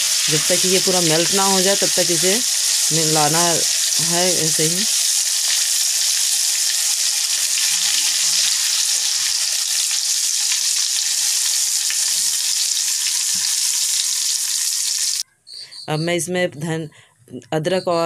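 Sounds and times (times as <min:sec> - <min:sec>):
butter sizzling in hot oil: 0:00.0 - 0:15.2.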